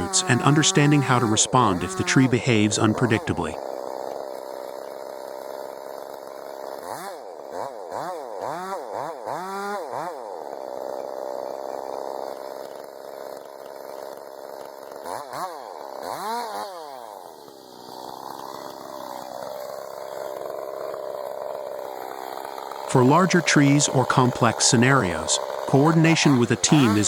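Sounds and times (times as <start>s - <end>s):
chainsaw engine revving: 0.0s - 27.0s.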